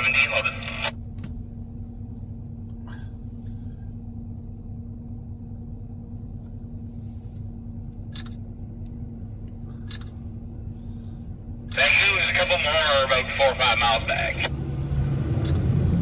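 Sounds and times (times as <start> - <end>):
constant hum: 0.0 - 16.0
vehicle engine and road noise: 0.0 - 16.0.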